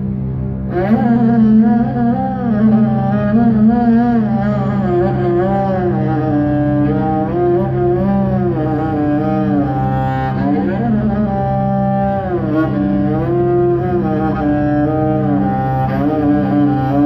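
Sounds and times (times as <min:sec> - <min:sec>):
steady low drone: 0:00.0 - 0:17.0
bowed lute melody: 0:00.7 - 0:17.0.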